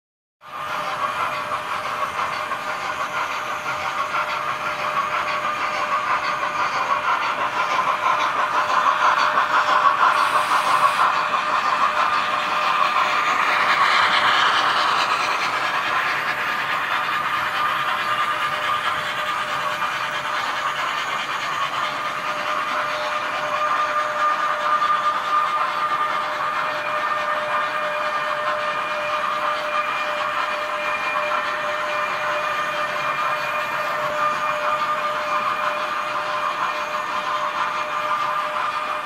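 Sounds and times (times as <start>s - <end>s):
model train motor whir: 0.5s - 39.0s
wheels rolling on rails: 0.5s - 39.0s.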